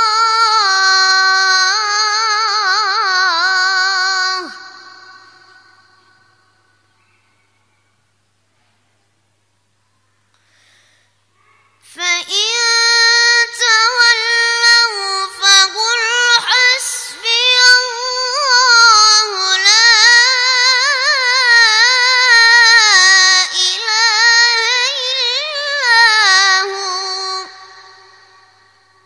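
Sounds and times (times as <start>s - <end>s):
boy reciting melodically: 0.0s - 6.6s, 11.5s - 29.0s.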